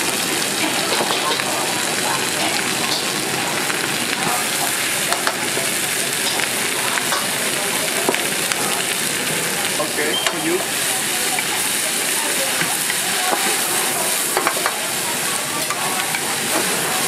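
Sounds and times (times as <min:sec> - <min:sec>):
greens sizzling in a hot pan: 0:00.0 - 0:17.0.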